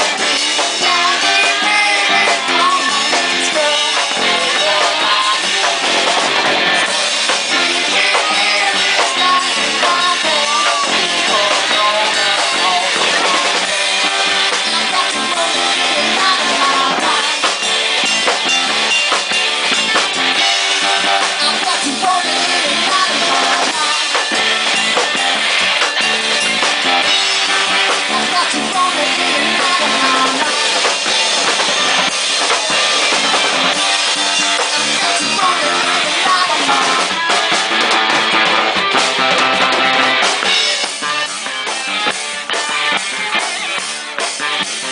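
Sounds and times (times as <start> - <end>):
drum kit beat: 0.0 - 44.9
electric guitar lines: 0.0 - 44.9.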